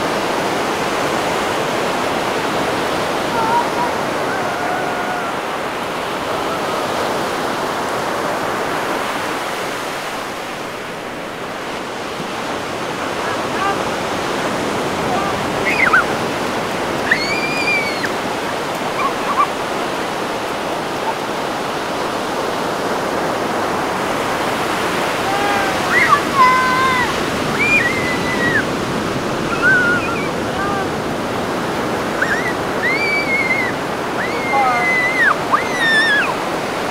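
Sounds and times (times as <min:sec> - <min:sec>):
surf breaking on beach: 0:00.0 - 0:36.9
children calling: 0:02.5 - 0:09.0, 0:12.3 - 0:36.9.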